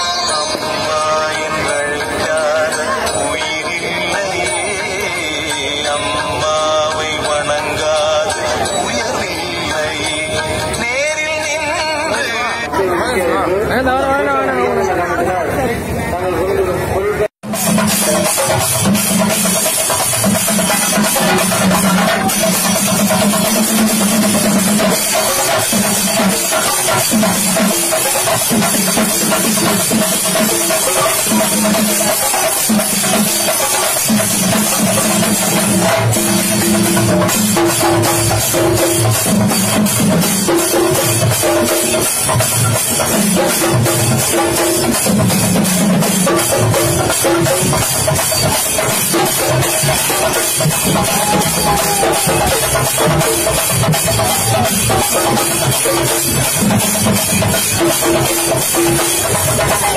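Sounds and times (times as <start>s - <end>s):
drums beaten in rapid roll: 0.0s - 14.8s, 16.8s - 59.9s.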